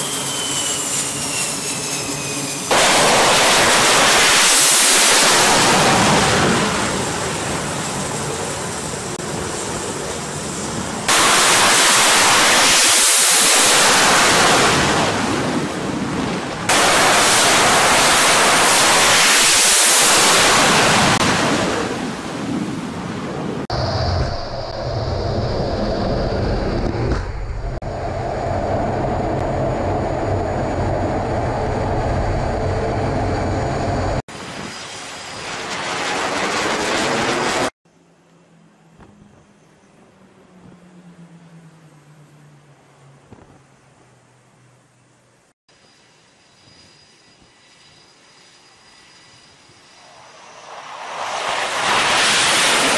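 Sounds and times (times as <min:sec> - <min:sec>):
jet engines roaring: 0:00.0 - 0:37.8, 0:47.4 - 0:52.9.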